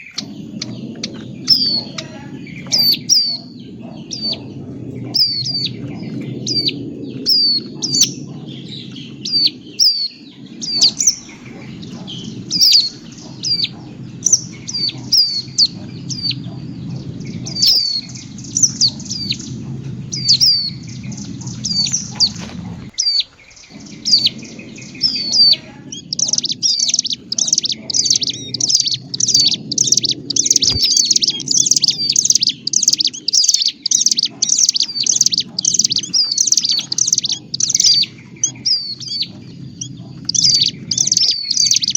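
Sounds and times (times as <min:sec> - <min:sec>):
bird chirping calls: 0:00.0 - 0:41.9
low rumble: 0:00.0 - 0:41.9.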